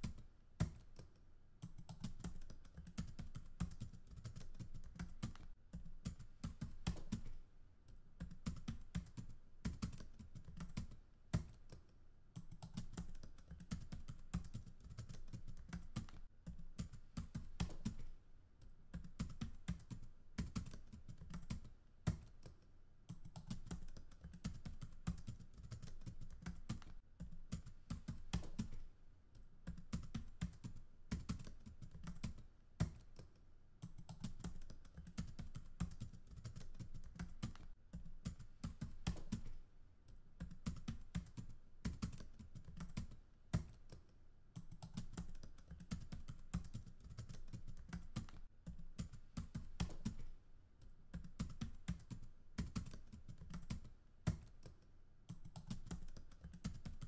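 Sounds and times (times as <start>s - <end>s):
typing on a keyboard: 0.0s - 57.0s.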